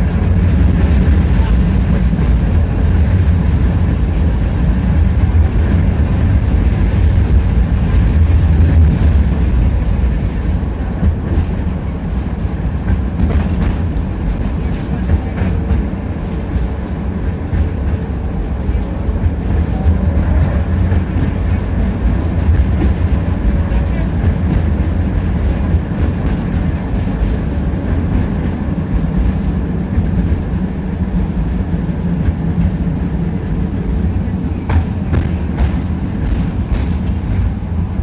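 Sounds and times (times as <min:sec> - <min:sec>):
tram wheels rumbling on rails: 0:00.0 - 0:38.0.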